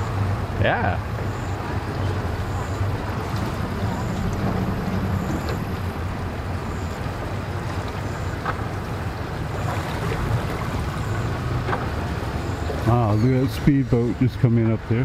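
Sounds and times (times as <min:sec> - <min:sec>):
outboard motors idling: 0:00.0 - 0:15.0.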